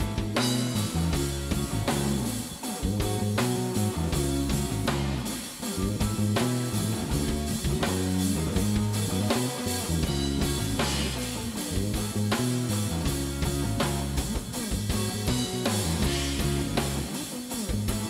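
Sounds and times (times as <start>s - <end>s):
bass guitar line: 0.0s - 18.0s
clean electric guitar: 0.0s - 18.0s
drum kit and cymbals: 0.0s - 18.0s.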